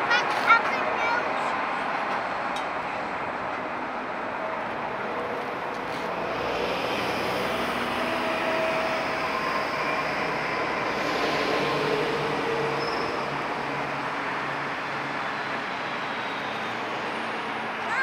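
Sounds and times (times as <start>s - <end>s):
buses passing: 0.0s - 18.0s
tram passing: 0.0s - 18.0s.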